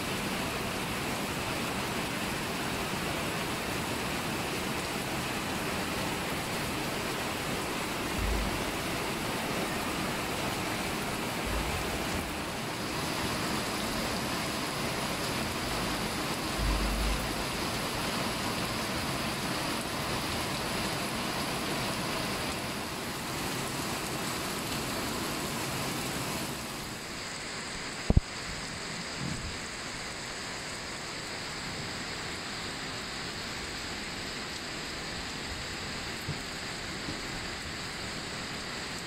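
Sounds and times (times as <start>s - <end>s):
rain falling on leaves: 0.0s - 39.0s.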